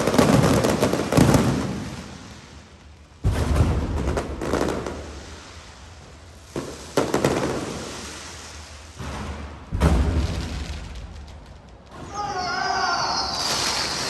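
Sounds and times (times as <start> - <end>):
fireworks bursting: 0.0 - 14.0
fireworks crackling: 0.0 - 14.0.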